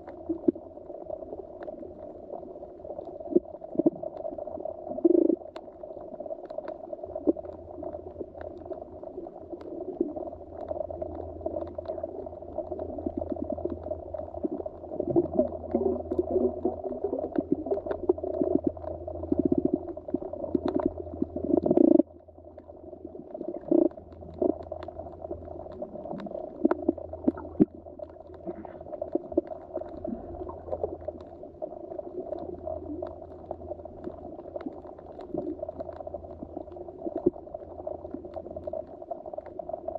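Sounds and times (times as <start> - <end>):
low underwater hum: 0.0 - 39.9
faint clicks: 2.9 - 39.9.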